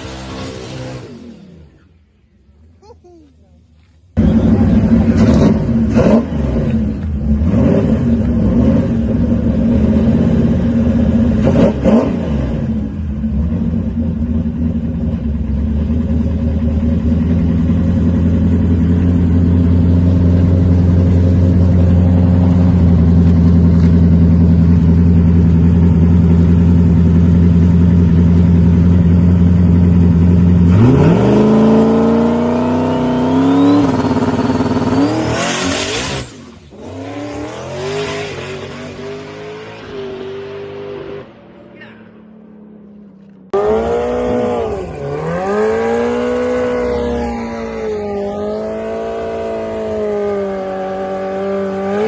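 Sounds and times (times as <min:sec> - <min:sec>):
drag racing car engine: 0:00.0 - 0:02.7, 0:03.8 - 0:52.0.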